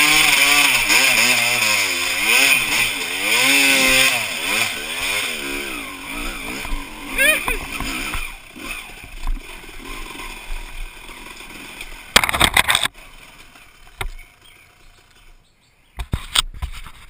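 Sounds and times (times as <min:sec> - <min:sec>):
dirt bike engine running: 0:00.0 - 0:15.8.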